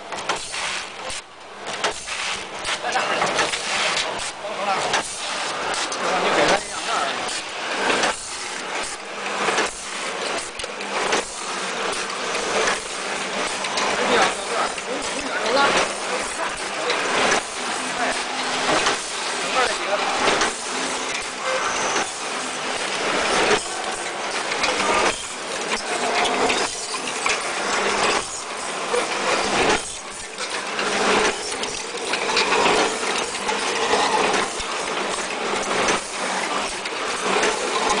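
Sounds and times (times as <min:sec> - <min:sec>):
packaging machine humming: 0:00.0 - 0:38.0
mechanical clacks: 0:00.1 - 0:38.0.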